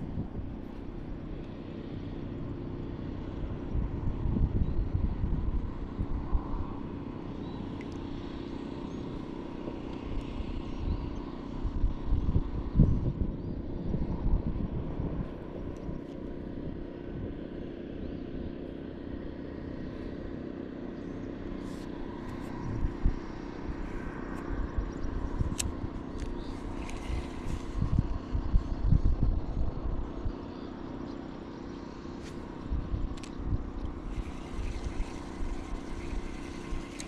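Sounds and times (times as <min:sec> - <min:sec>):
wind buffeting microphone: 0:00.0 - 0:07.8, 0:09.2 - 0:19.3, 0:21.5 - 0:31.4, 0:32.0 - 0:37.0
steady low hum: 0:00.0 - 0:37.0.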